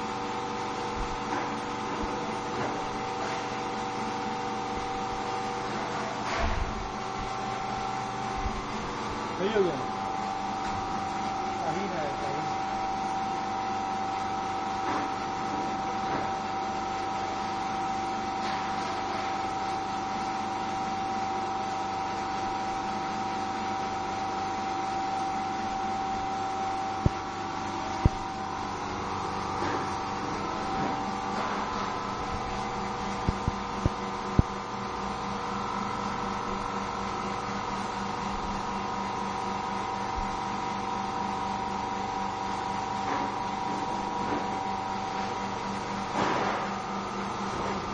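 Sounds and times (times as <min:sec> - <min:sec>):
machine humming: 0:00.0 - 0:14.6, 0:19.4 - 0:47.9.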